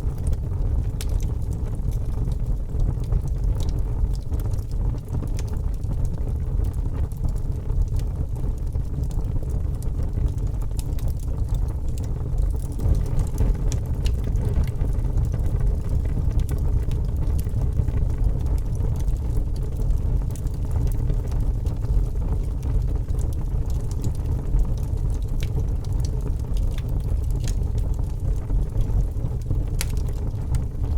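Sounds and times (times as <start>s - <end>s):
log fire crackling: 0.0s - 30.9s.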